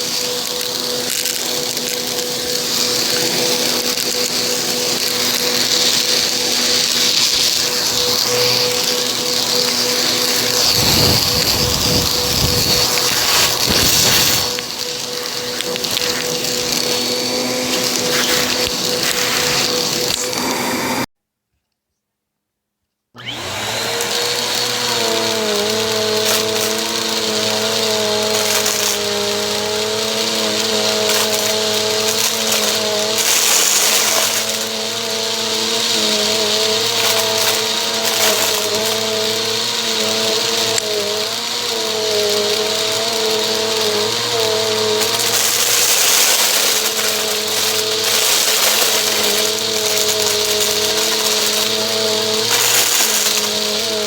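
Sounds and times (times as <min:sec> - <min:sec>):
foil confetti crackling: 0:00.0 - 0:21.1, 0:23.7 - 0:54.0
vacuum cleaner running: 0:00.0 - 0:21.1, 0:23.2 - 0:54.0.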